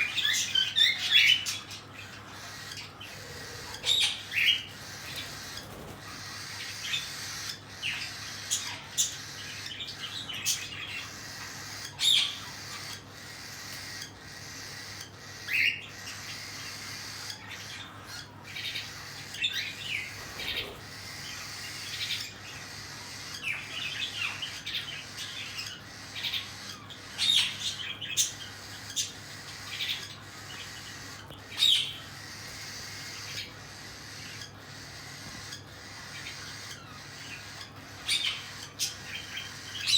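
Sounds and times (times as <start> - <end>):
cockatiels chirping and squawking: 0.0 - 39.9.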